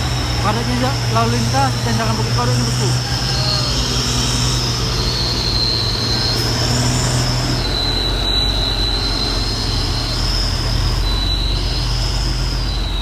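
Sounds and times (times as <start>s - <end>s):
high-pitched brake squeal: 0.0s - 13.0s
truck engines humming: 0.0s - 13.0s.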